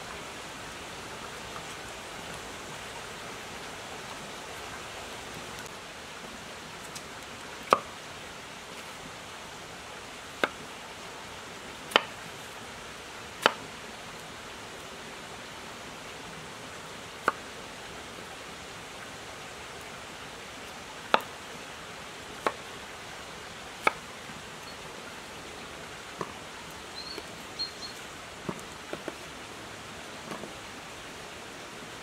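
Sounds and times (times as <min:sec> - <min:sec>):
river rushing: 0:00.0 - 0:32.0.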